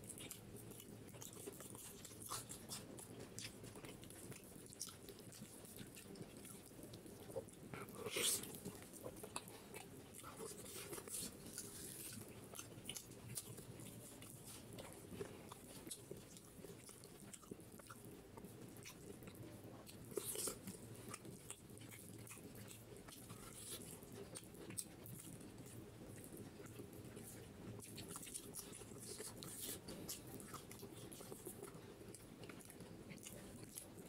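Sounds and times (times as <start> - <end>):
man chewing food: 0.0 - 34.0.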